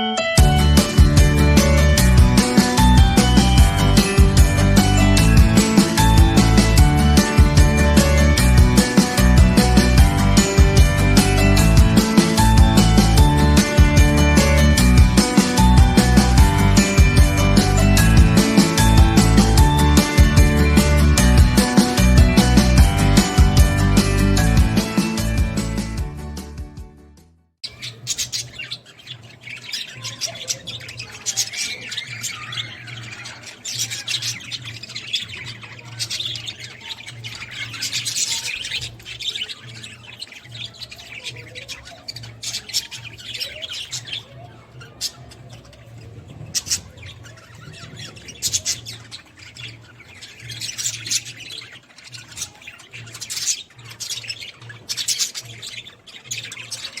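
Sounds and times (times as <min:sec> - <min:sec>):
birds chirping and squawking: 0:00.0 - 0:26.0, 0:27.6 - 0:57.0.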